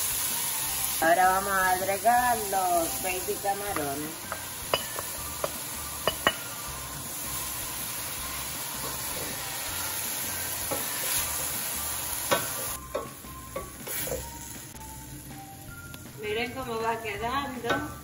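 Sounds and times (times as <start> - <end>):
shrimp sizzling in a skillet: 0.0 - 16.0.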